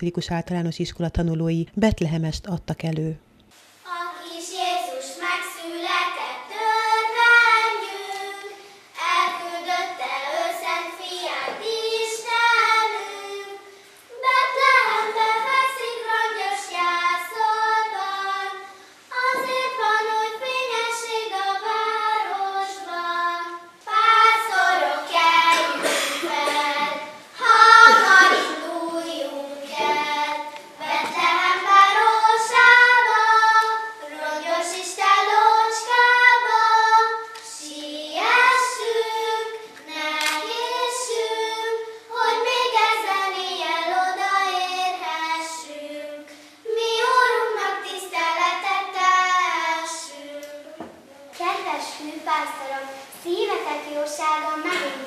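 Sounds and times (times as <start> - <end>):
children singing together: 3.9 - 55.0.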